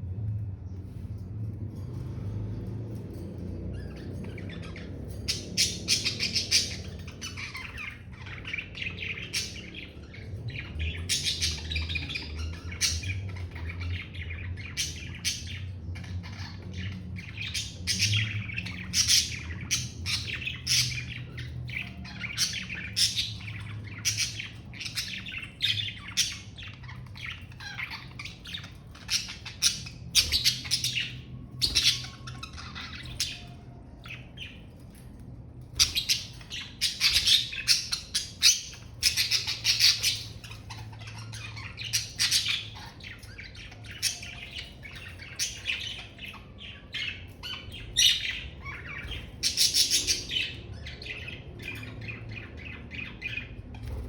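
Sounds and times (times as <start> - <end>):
budgerigars chirping: 3.7 - 35.0, 35.6 - 54.0.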